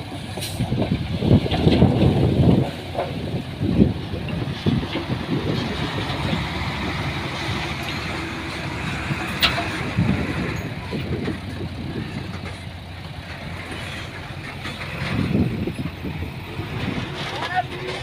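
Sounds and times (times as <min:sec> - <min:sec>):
diesel machinery engine rumble: 0:00.0 - 0:18.0.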